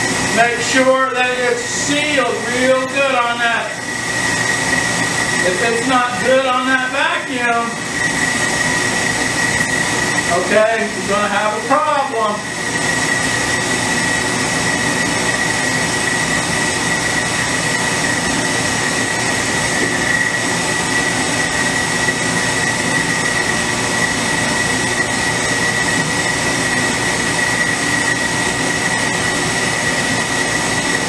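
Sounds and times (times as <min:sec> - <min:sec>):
melting furnace running: 0:00.0 - 0:31.0
vacuum pump whining: 0:00.0 - 0:31.0.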